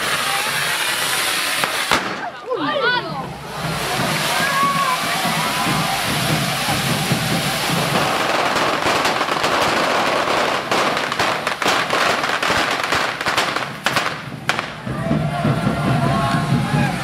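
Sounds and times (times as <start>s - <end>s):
firecracker cracks and bangs: 0.0s - 2.5s, 3.4s - 17.0s
fireworks hissing: 0.0s - 17.0s.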